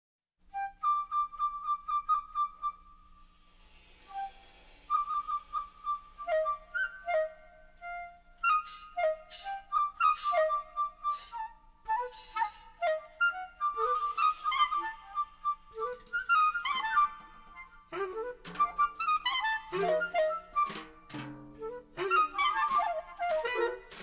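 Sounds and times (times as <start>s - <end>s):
solo flute melody: 0.5s - 24.0s.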